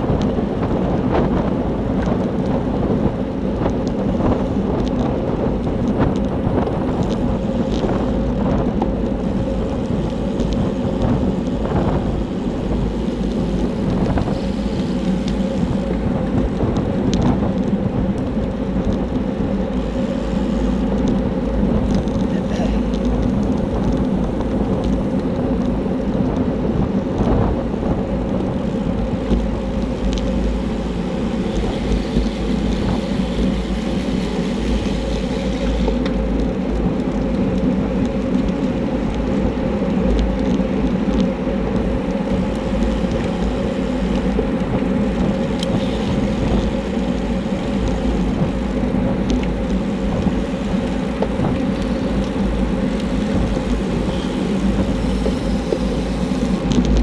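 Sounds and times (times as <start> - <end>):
bicycle road noise: 0.0 - 57.0
wind buffeting microphone: 0.0 - 57.0.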